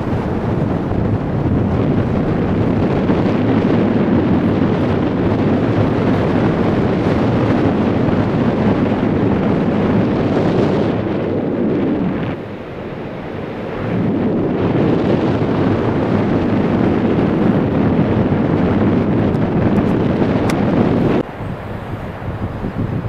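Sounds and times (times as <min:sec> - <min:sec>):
ocean surf: 0:00.0 - 0:17.7, 0:20.6 - 0:23.0
wind buffeting microphone: 0:00.0 - 0:23.0.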